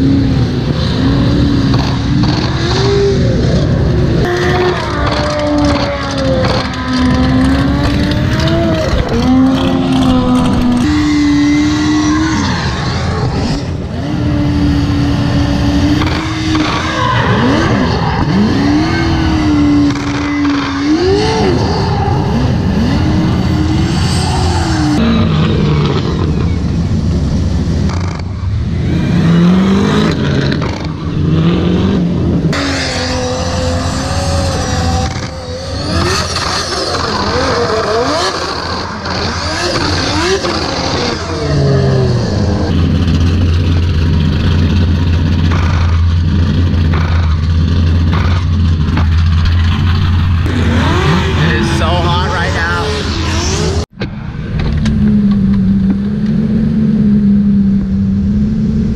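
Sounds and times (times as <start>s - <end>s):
high-revving car engines: 0.0s - 58.9s.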